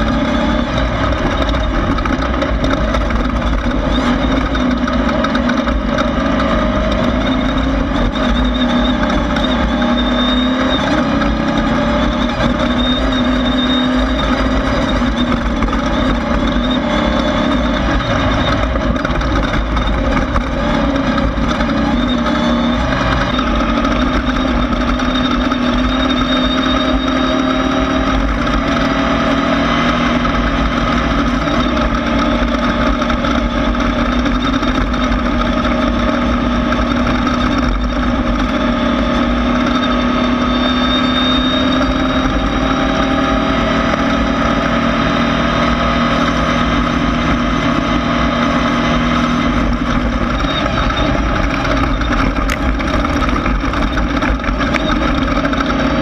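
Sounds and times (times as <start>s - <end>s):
car engine running: 0.0s - 56.0s
constant rushing noise: 0.0s - 56.0s.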